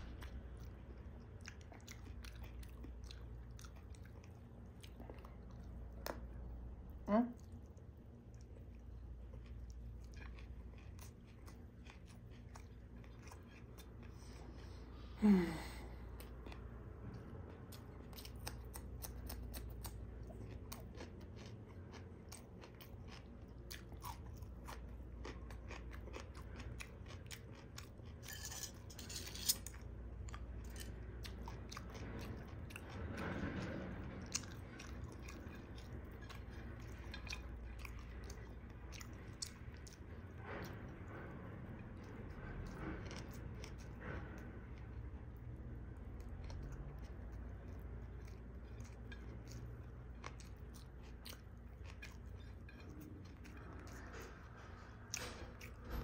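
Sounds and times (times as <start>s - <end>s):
chewing with lip smacks: 0.0s - 15.2s, 16.1s - 56.0s.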